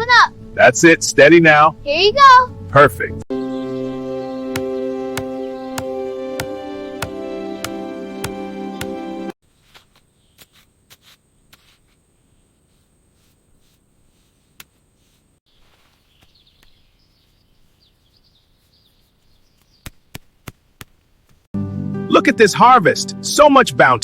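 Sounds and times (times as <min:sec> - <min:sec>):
faint outdoor ambience: 0:00.0 - 0:21.5.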